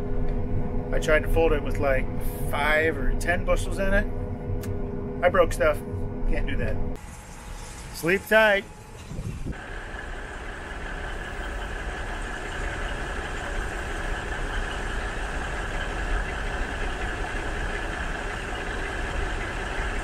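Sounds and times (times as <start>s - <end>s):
farm machinery engine drone: 0.0s - 20.0s.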